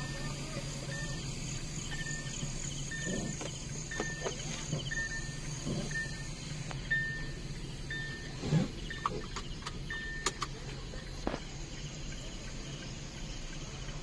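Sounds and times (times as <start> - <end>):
car engine drone: 0.0 - 14.0.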